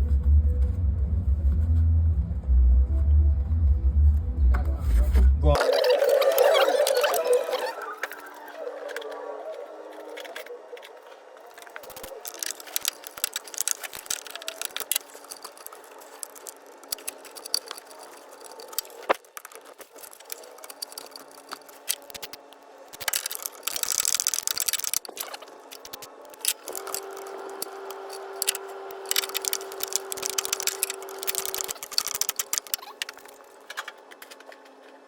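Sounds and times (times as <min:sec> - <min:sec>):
hand tools and parts rattling: 0:05.6 - 0:34.7.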